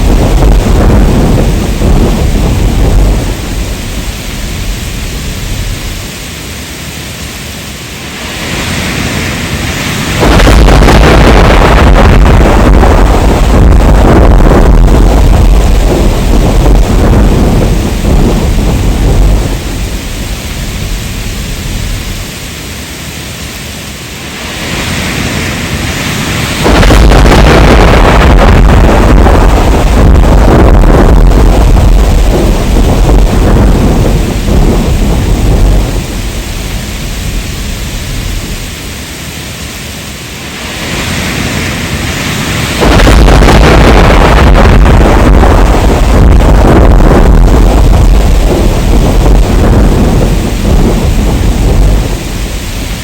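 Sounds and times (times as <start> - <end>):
heavy rain hissing: 0.0 - 53.0
thunder rumbling: 0.0 - 53.0.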